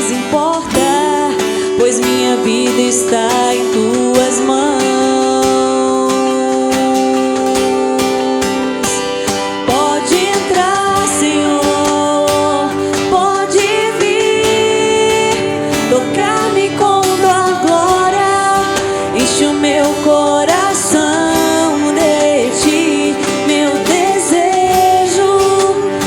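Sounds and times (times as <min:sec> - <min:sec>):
acoustic guitars strumming: 0:00.0 - 0:26.0
percussion: 0:00.0 - 0:26.0
woman singing: 0:00.0 - 0:26.0.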